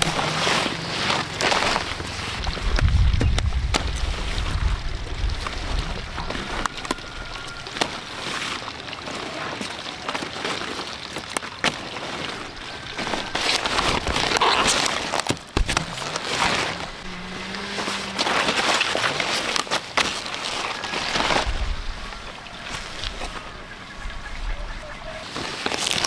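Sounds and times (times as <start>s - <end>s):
soil crumbling: 0.0s - 23.6s, 25.1s - 26.0s
large leaves rustling: 0.0s - 26.0s.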